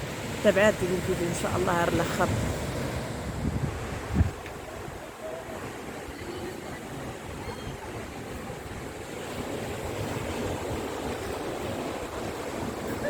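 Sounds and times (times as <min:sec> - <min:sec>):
sea surf washing onto shore: 0:00.0 - 0:13.0
wind rumbling on microphone: 0:00.0 - 0:13.0.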